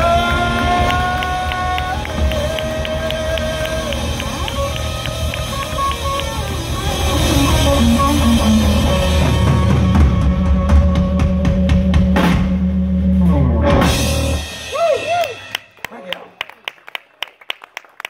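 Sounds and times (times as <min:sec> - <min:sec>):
bass guitar: 0:00.0 - 0:15.6
electric guitar: 0:00.0 - 0:15.6.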